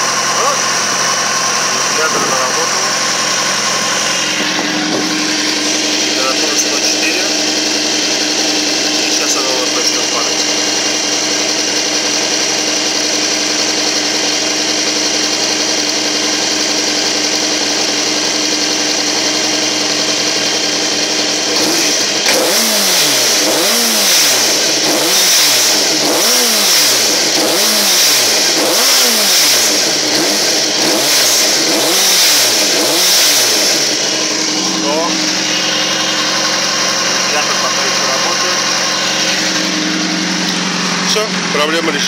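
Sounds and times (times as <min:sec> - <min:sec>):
motorcycle engine idling and revving: 0:00.0 - 0:42.0.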